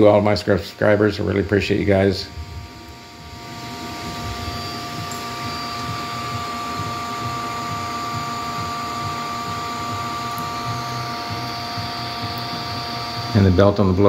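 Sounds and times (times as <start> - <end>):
model engine whine and rumble: 1.2 - 14.0.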